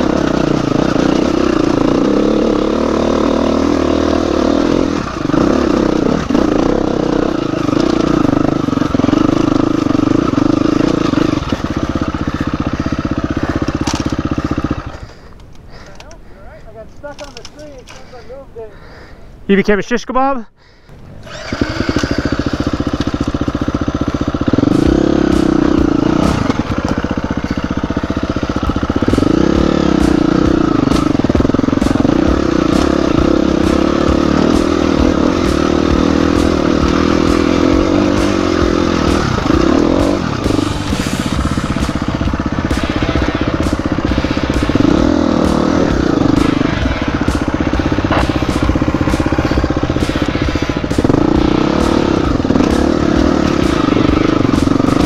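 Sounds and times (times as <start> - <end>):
dirt bike engine revving: 0.0 - 15.8, 21.2 - 55.0.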